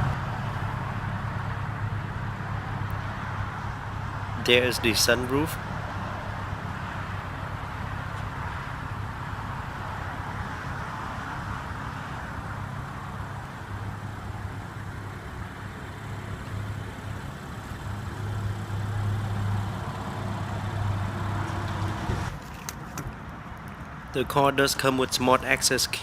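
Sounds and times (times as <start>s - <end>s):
vehicle engine idling: 0.0s - 25.3s.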